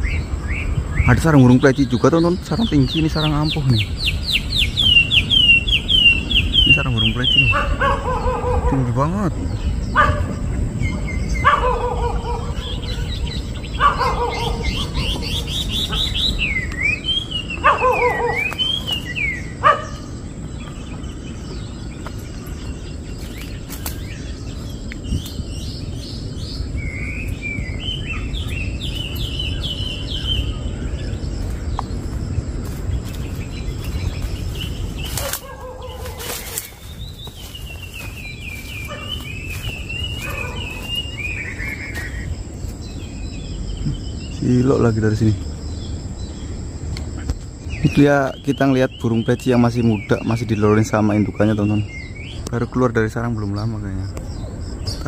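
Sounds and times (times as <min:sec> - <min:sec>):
low microphone rumble: 0:00.0 - 0:55.0
songbird calls sweeping up and down: 0:00.0 - 0:55.0.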